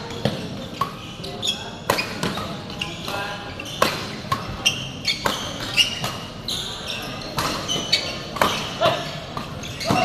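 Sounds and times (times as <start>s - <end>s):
shoe squeaks on floor: 0.0s - 10.0s.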